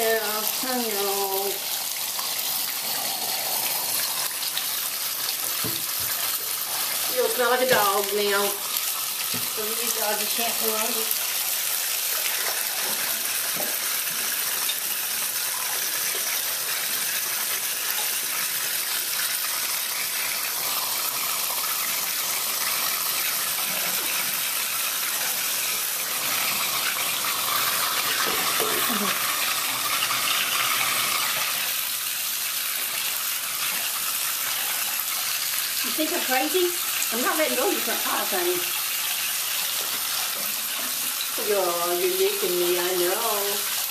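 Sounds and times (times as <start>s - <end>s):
water running into bathtub: 0.0s - 43.9s.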